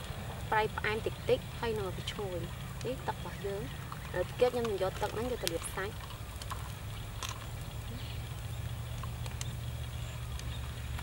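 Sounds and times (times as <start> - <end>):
charcoal fire crackling and popping: 0.0 - 11.0
low fire rumble: 0.0 - 11.0.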